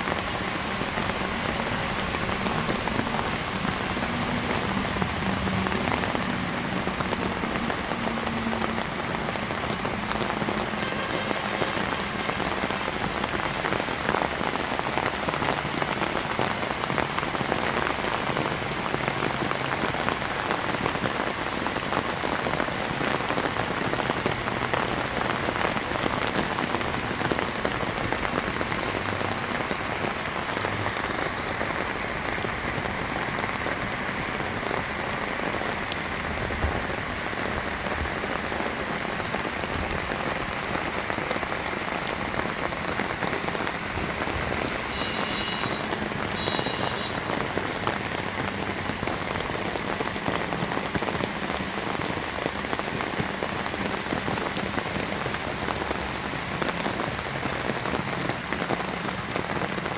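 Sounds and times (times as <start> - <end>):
rain on wet pavement: 0.0 - 59.9.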